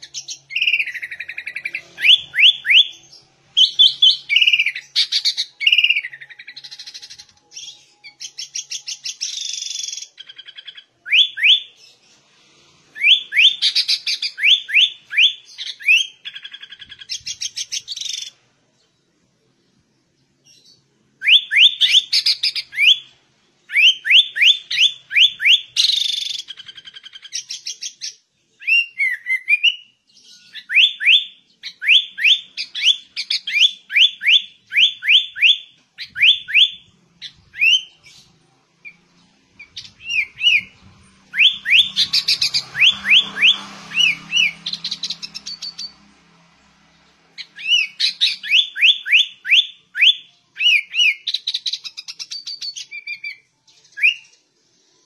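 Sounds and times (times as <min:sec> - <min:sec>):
bird singing whistled notes: 0:00.0 - 0:12.0, 0:12.9 - 0:18.4, 0:20.5 - 0:46.1, 0:47.4 - 0:55.0.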